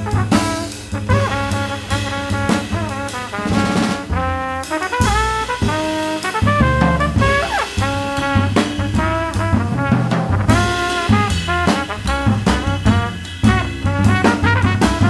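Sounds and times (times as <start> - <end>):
double bass: 0.0 - 4.6, 5.2 - 15.0
drums: 0.0 - 15.0
trumpet: 0.0 - 15.0.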